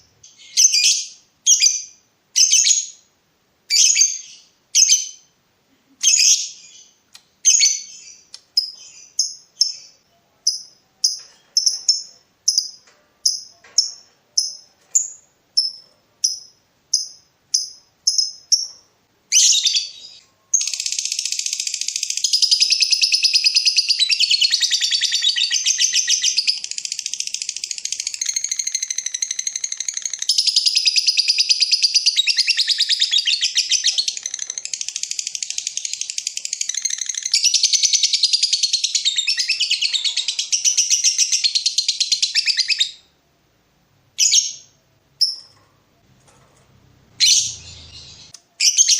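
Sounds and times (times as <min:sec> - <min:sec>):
lovebird chirping and trilling: 0:00.2 - 0:03.0, 0:03.7 - 0:05.3, 0:06.0 - 0:43.1, 0:44.2 - 0:45.6, 0:47.1 - 0:48.9.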